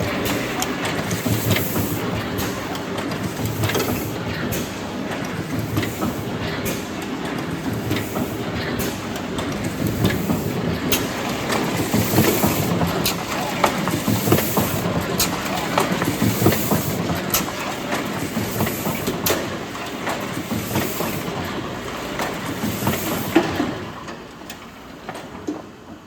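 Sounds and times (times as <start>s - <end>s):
die-cutting machine clattering: 0.0s - 24.0s.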